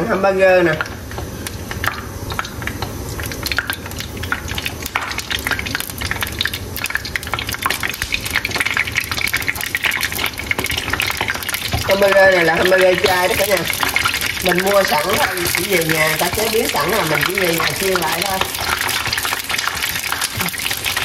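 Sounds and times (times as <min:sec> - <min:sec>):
patties sizzling in hot oil: 0:00.0 - 0:21.0.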